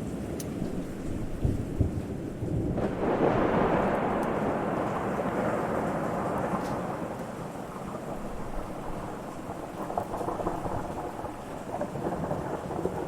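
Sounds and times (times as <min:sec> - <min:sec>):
thunder rumbling: 0:00.7 - 0:13.0.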